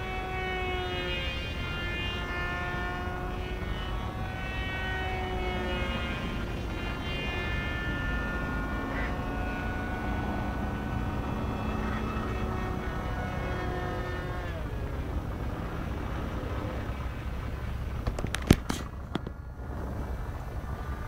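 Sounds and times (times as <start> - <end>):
low wind rumble: 0.0 - 21.0
model plane motor whining: 0.0 - 21.0.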